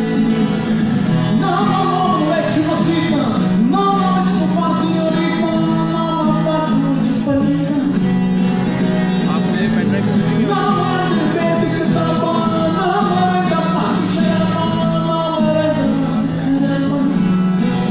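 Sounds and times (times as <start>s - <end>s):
acoustic guitar strumming: 0.0s - 17.9s
man singing into microphone: 1.4s - 8.0s, 9.3s - 17.2s.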